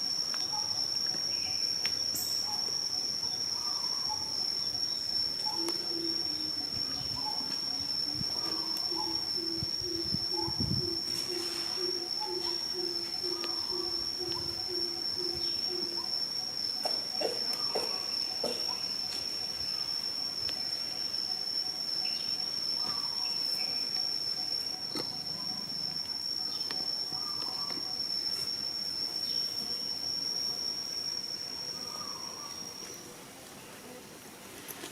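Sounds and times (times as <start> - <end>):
insect drone: 0.0 - 34.9.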